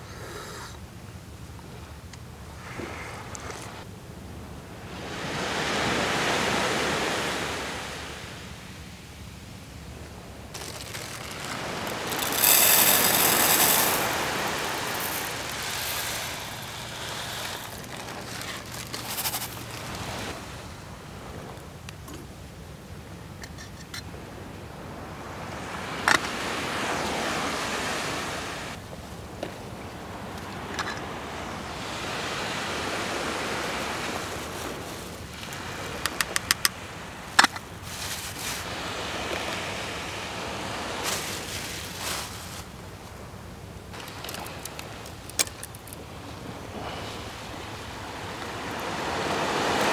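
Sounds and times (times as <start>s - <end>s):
surf washing on a beach: 1.7s - 21.8s, 24.0s - 49.9s.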